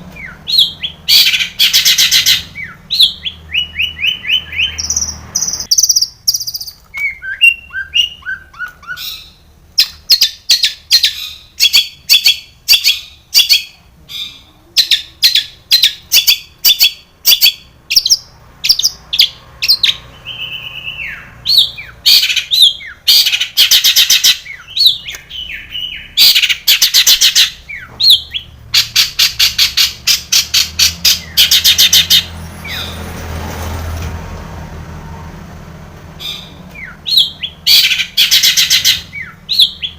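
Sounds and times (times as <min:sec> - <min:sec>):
shrike singing: 0:00.0 - 0:33.0.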